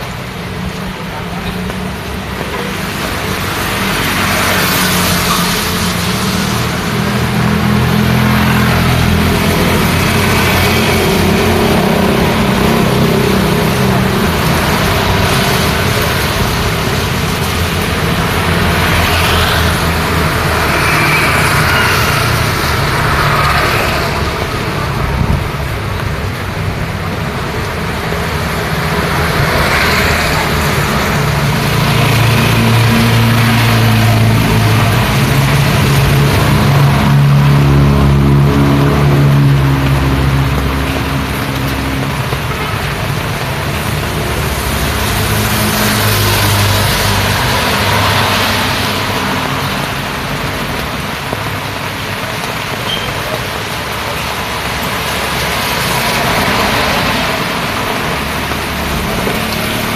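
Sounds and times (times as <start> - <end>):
rain and tyres on wet road: 0.0 - 59.9
vehicle engines running: 0.0 - 59.9.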